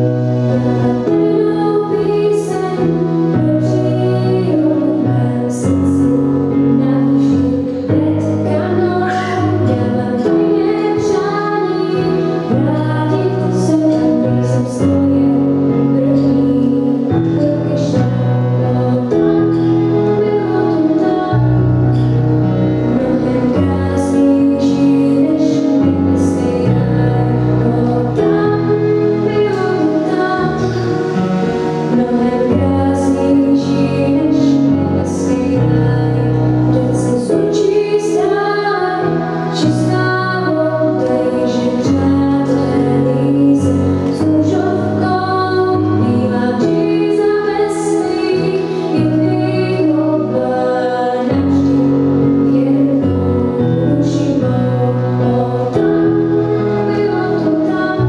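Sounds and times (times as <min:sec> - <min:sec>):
girl singing: 0:00.0 - 0:22.1, 0:22.7 - 0:31.2, 0:31.8 - 0:58.0
keyboard bass notes and chords: 0:00.0 - 0:58.0.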